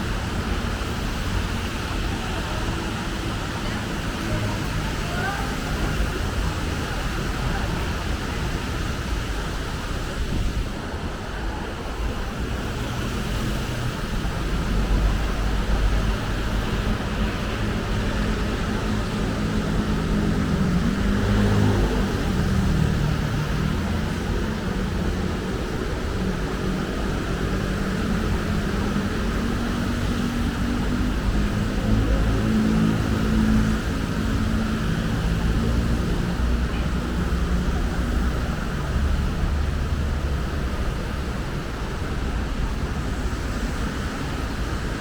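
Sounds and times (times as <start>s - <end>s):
heavier engines humming: 0.0s - 45.0s
road traffic noise: 0.0s - 45.0s.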